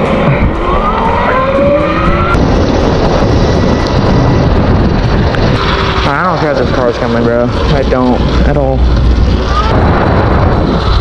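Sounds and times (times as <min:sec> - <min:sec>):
electric motor whine: 0:00.0 - 0:11.0
wind rushing over microphone: 0:00.0 - 0:11.0.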